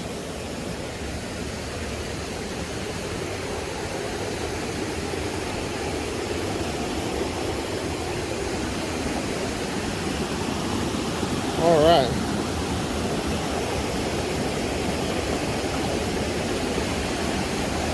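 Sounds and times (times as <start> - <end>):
water rushing in a creek: 0.0 - 17.9.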